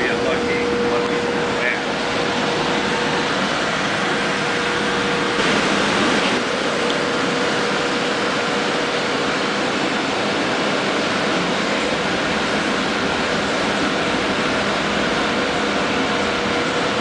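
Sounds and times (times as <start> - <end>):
oven blower air rush: 0.0 - 17.0.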